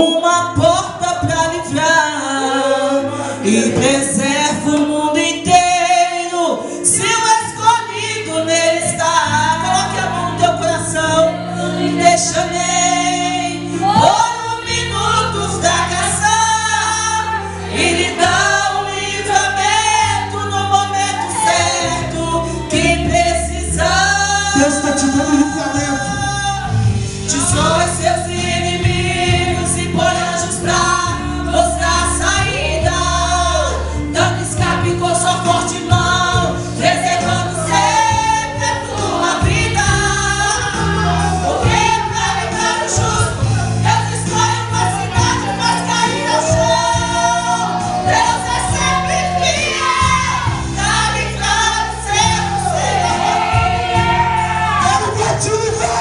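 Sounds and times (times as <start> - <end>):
choir singing a hymn: 0.0 - 56.0
instrumental accompaniment: 0.6 - 56.0.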